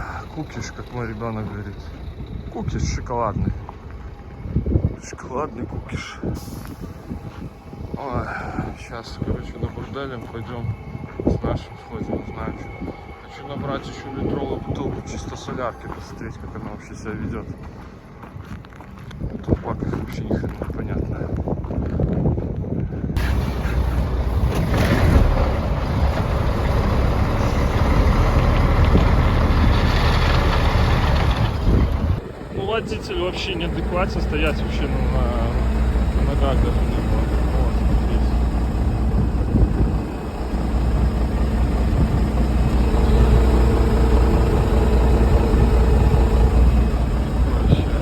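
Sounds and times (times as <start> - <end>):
heavy truck engine rumbling: 0.0 - 18.9, 23.1 - 48.0
wind buffeting microphone: 0.0 - 48.0.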